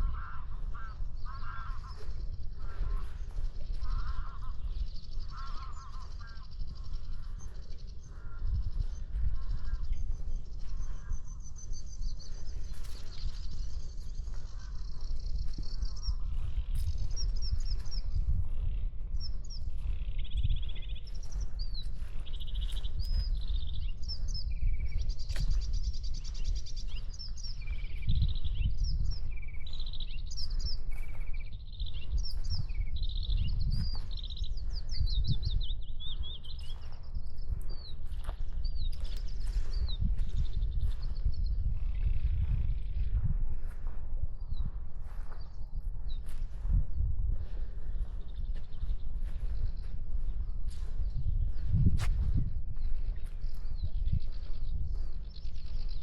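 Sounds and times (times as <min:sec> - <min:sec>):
birds chirping and singing: 0:00.0 - 0:56.0
low wind rumble on microphone: 0:00.0 - 0:56.0.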